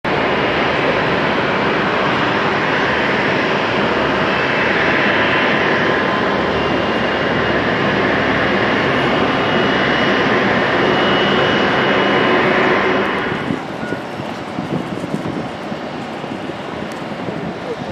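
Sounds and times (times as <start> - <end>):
jet engines running: 0.1 - 17.9.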